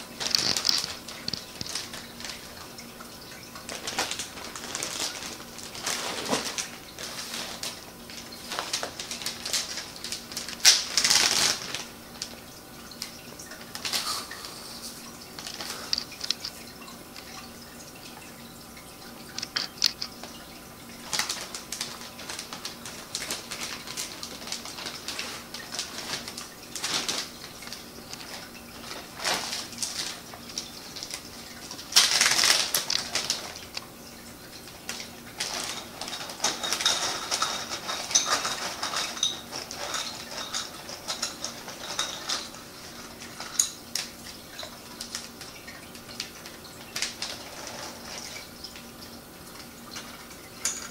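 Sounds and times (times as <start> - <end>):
plastic bag crinkling: 0.0 - 18.2, 19.2 - 50.9.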